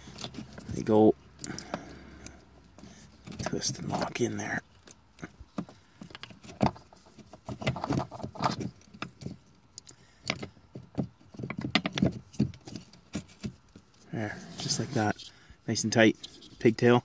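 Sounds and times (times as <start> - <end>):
wiring being handled: 0.0 - 15.3.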